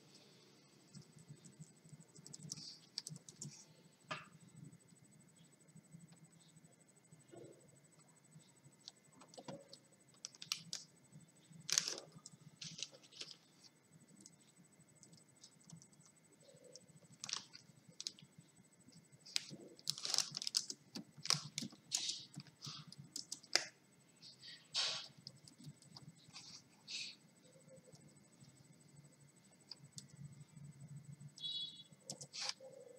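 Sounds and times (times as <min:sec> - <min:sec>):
faint background hum: 0:00.0 - 0:32.9.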